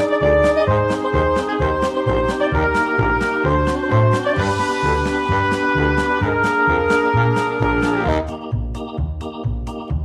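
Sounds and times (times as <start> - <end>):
upbeat music with brass melody: 0.0 - 10.0.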